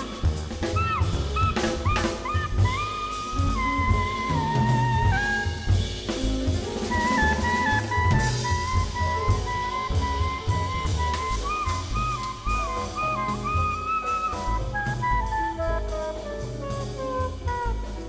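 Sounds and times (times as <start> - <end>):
brass horn melody: 0.0 - 18.0
drum kit with bass drum: 0.0 - 18.0
jazz band playing: 0.0 - 18.0.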